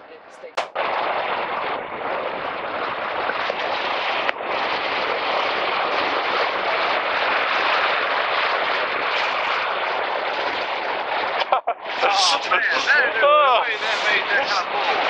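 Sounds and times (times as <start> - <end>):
wind buffeting microphone: 0.0 - 15.0
ocean surf breaking on beach: 0.8 - 15.0.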